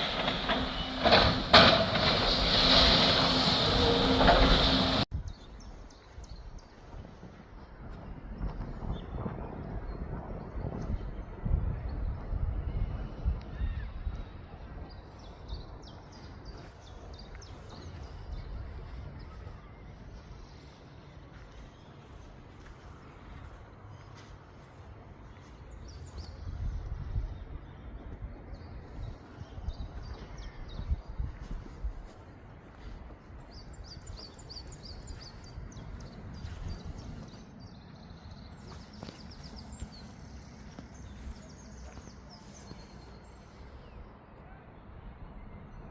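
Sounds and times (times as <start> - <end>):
birds chirping: 0.0 - 7.3, 8.3 - 44.7
low outdoor rumble: 0.0 - 45.9.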